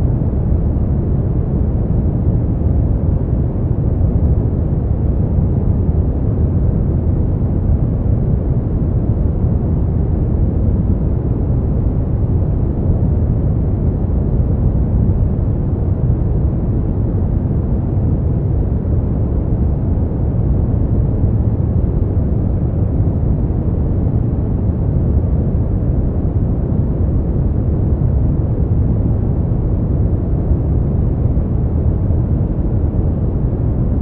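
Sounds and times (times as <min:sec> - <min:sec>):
deep rushing brown noise: 0:00.0 - 0:34.0.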